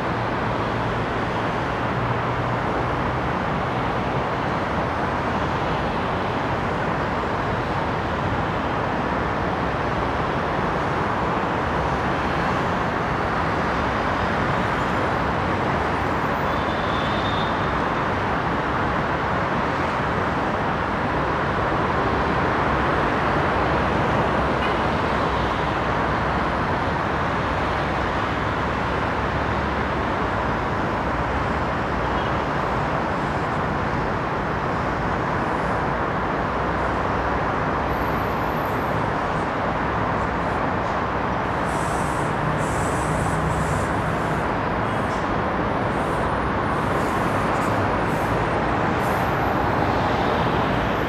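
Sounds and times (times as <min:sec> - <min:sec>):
city road traffic: 0:00.0 - 0:51.0.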